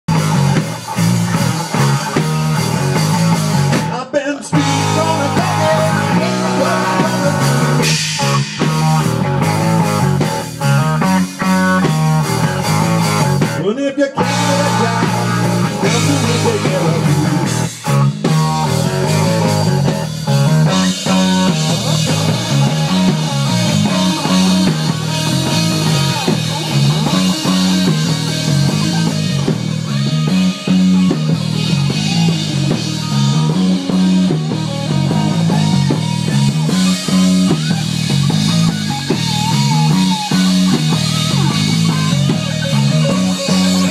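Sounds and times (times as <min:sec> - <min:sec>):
rock band playing: 0:00.1 - 0:43.9.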